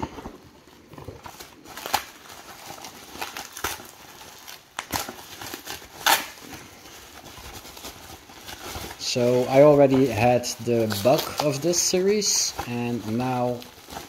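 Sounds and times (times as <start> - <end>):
bubble wrap crinkling: 0.0 - 14.0
bubble wrap snaps: 1.1 - 14.0.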